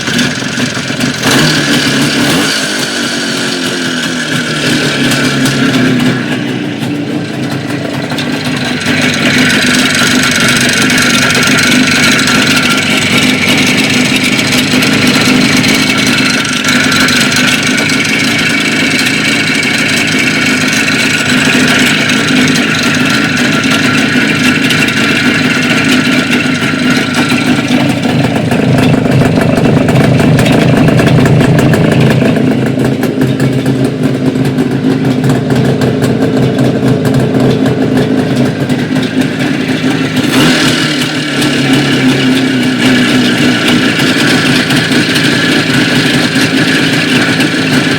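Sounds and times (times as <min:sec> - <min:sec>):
motorcycle engine knocking: 0:00.0 - 0:47.9.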